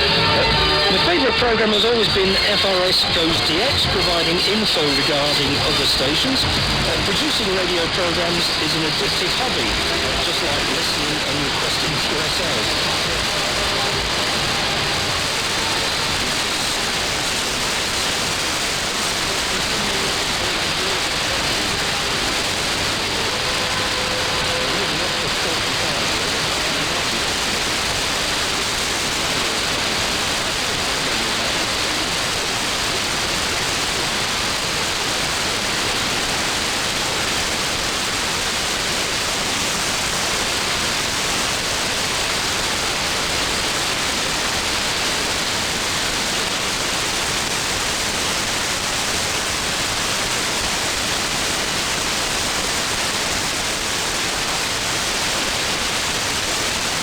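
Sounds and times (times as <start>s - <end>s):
shortwave radio hiss and static: 0.0s - 57.0s.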